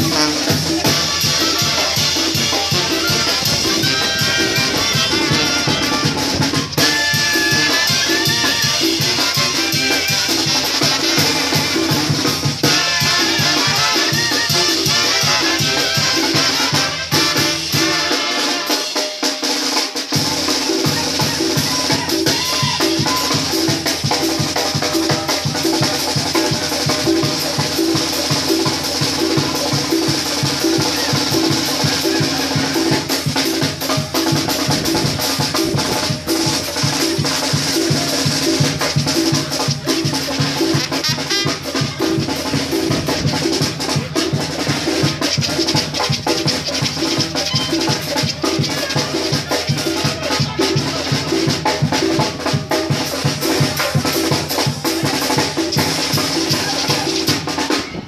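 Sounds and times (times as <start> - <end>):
big drum beat: 0.0 - 58.0
brass band dance music: 0.0 - 58.0.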